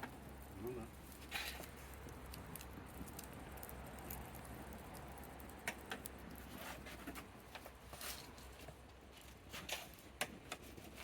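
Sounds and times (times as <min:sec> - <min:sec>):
campfire crackling: 0:00.0 - 0:11.0.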